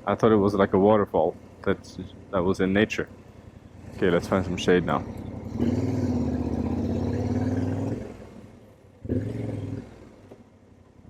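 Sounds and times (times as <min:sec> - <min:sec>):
motorcycle engine revving: 0:01.5 - 0:11.0.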